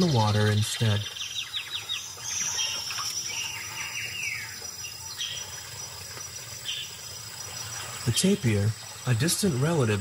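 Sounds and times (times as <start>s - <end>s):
birds chirping: 0.0s - 10.0s
faint marsh ambience: 0.0s - 10.0s.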